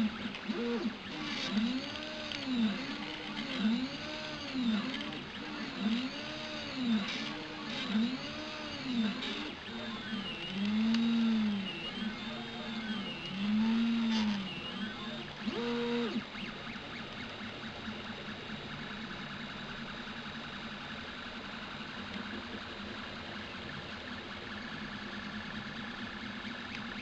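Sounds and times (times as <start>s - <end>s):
three d printer stepper motors whining: 0.0s - 23.1s.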